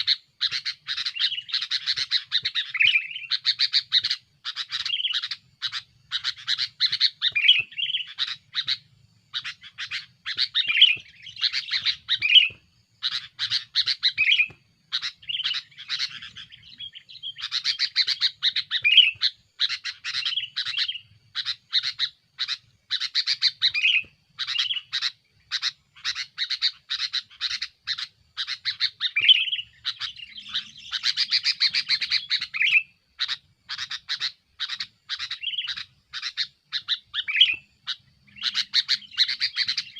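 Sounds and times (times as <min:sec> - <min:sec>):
bulbul singing chirps: 0:00.0 - 0:39.9.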